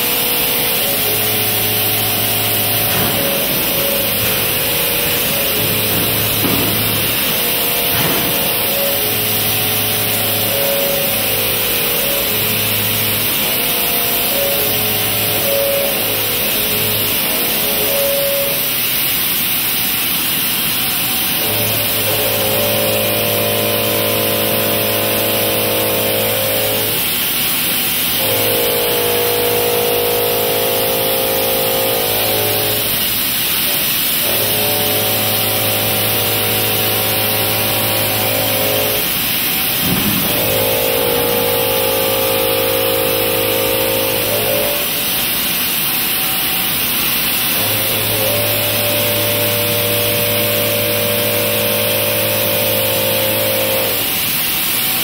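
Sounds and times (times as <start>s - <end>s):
milling cutter humming through steel: 0.0s - 55.0s.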